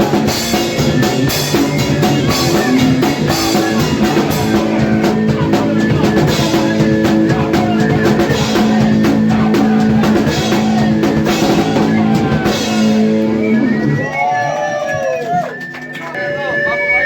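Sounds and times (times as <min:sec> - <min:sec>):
fast drum kit with cymbals: 0:00.0 - 0:14.0
distorted guitar riff: 0:00.0 - 0:14.3.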